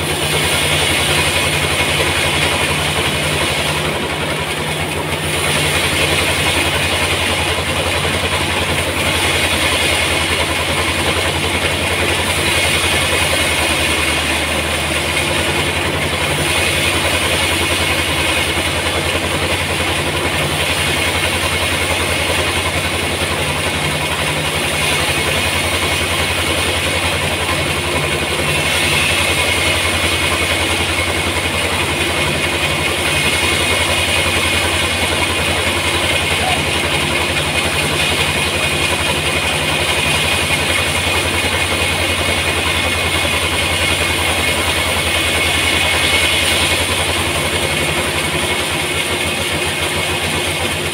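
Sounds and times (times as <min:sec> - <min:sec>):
band saw cutting log: 0:00.0 - 0:50.9.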